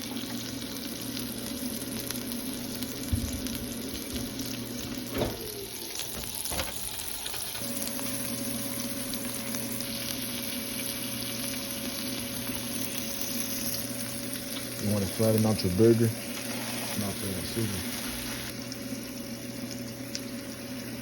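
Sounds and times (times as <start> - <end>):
frying pan sizzling: 0.0 - 21.0.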